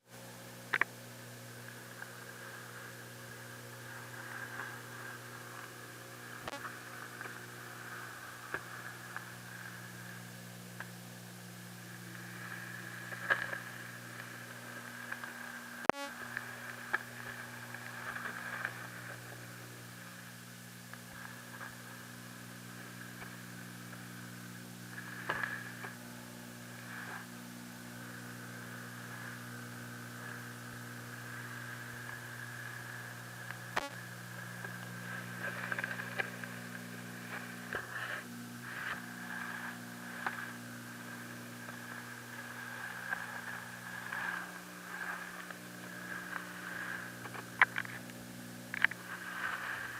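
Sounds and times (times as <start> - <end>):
aquarium equipment humming: 0.0 - 49.9.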